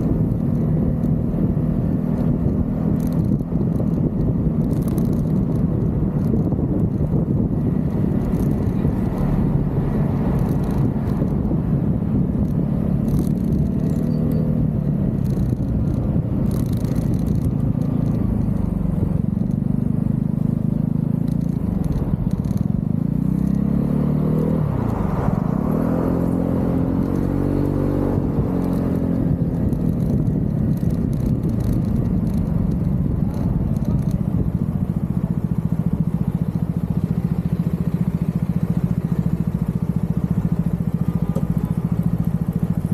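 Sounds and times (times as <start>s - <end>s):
scooter engine running: 0.0s - 42.9s.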